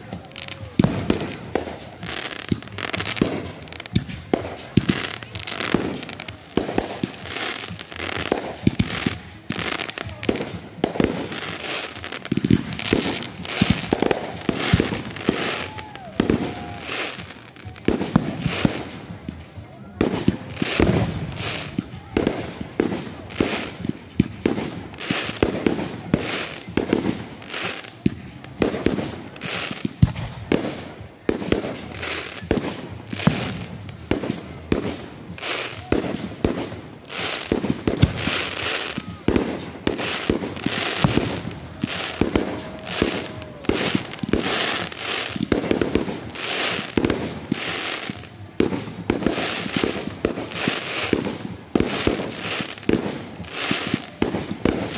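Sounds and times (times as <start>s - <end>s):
fireworks crackling: 0.0s - 54.9s.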